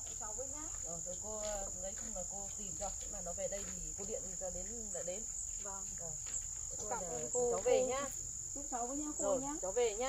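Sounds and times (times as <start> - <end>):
high insect trill: 0.0 - 10.0
people talking quietly: 0.0 - 10.0.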